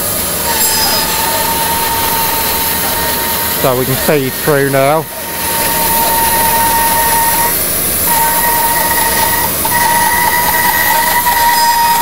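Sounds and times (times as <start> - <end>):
bandsaw cutting log: 0.4 - 12.0.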